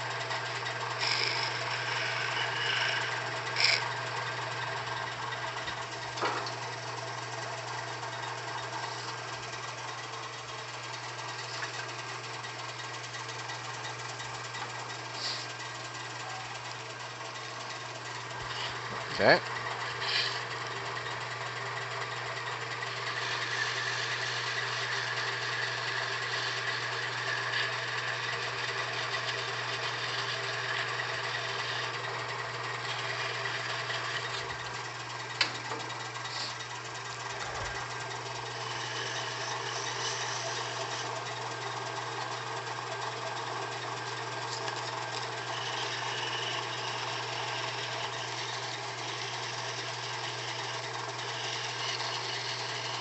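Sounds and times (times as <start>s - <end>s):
wood lathe motor hum: 0.0s - 53.0s.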